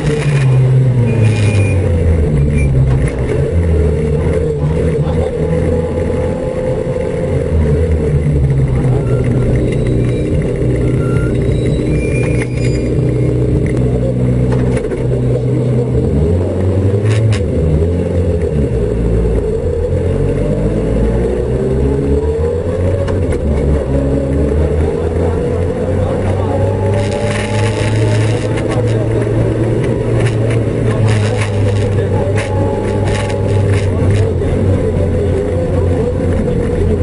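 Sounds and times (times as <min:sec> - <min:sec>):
car engine revving in cabin: 0:00.0 - 0:37.0.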